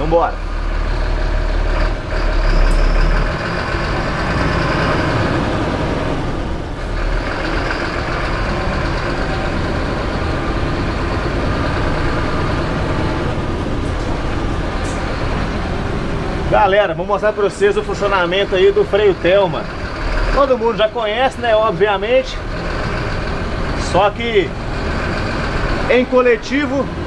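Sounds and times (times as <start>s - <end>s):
bus diesel engine pulling away: 0.0s - 27.0s.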